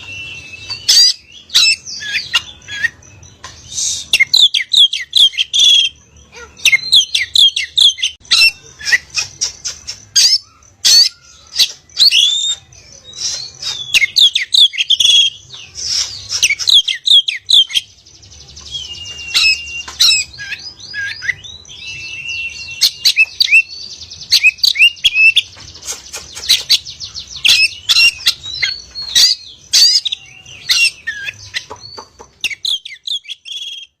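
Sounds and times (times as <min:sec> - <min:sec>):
songbird singing whistled notes: 0:00.0 - 0:34.0.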